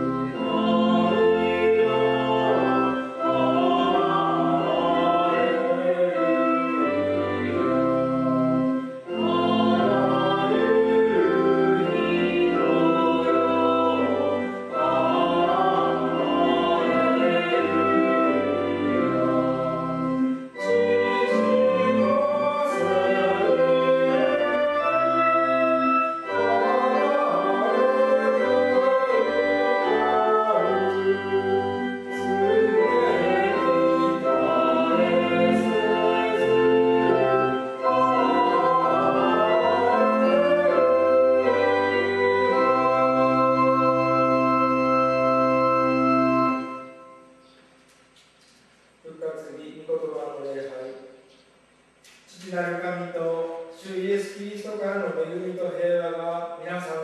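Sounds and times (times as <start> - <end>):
voices singing a hymn: 0.0 - 47.4
organ chords: 0.0 - 57.0.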